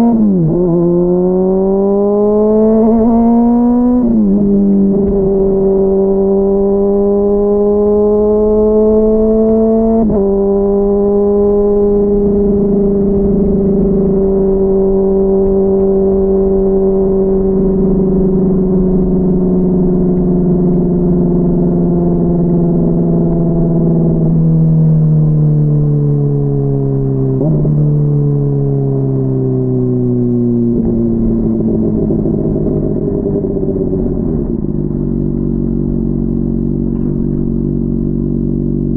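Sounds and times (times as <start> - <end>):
muffled motorcycle engine: 0.0 - 38.9.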